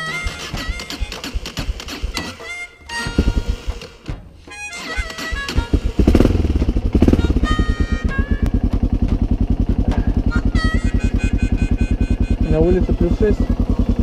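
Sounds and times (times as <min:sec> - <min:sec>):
motorcycle engine idling: 0:00.0 - 0:04.2, 0:05.0 - 0:14.0.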